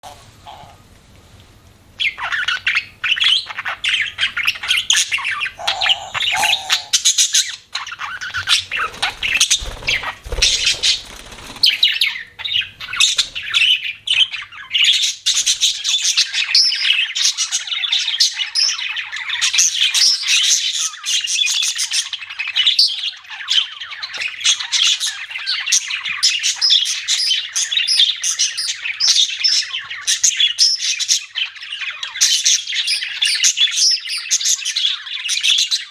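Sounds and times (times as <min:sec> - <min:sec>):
budgerigars chirping and chattering: 0:02.0 - 0:35.9.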